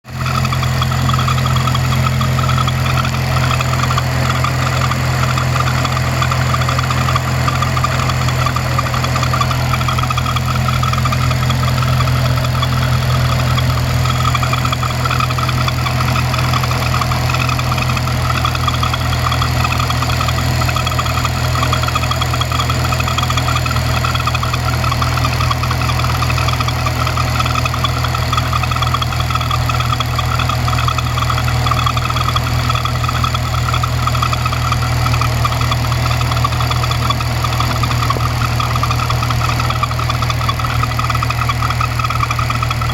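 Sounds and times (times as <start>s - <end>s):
car engine idling: 0.0s - 42.9s
flickering squeak: 0.1s - 42.9s.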